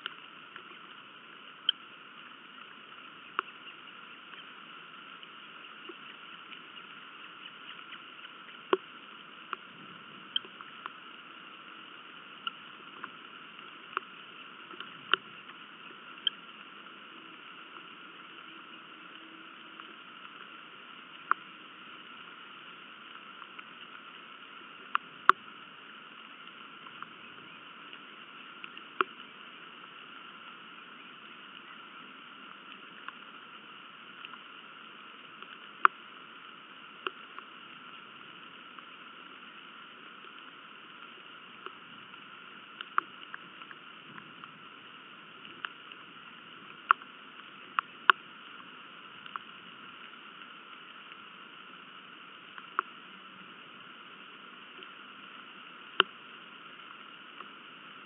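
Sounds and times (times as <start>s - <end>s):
raindrops tapping close by: 0.0s - 58.0s
steady rain hiss: 0.0s - 58.0s.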